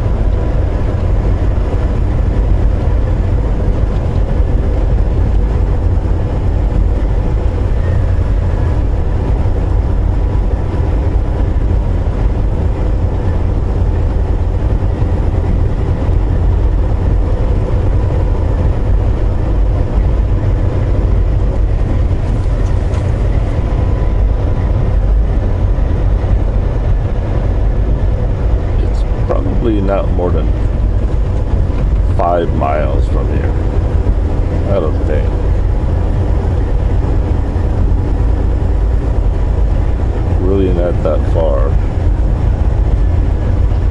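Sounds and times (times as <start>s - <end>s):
truck engine and road noise: 0.0s - 43.9s.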